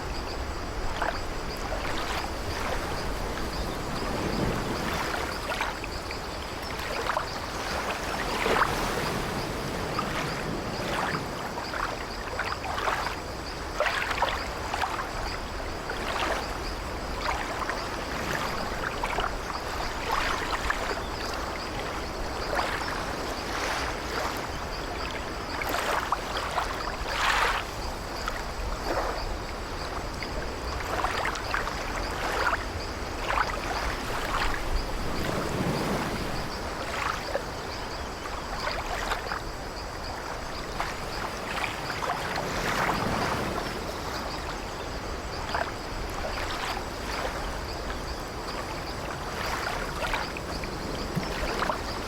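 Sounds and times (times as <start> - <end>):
sea waves washing: 0.0 - 52.0.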